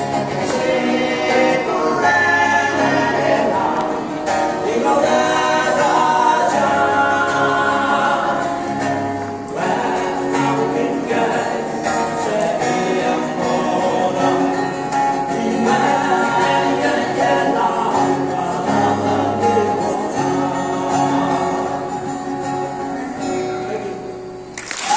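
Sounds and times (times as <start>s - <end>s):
men singing together: 0.0s - 22.7s
acoustic guitar: 0.0s - 24.9s.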